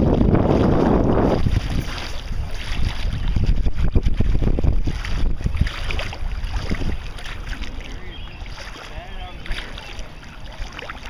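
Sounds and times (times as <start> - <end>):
water sloshing and splashing: 0.0 - 11.0
wind rumbling on microphone: 0.0 - 11.0.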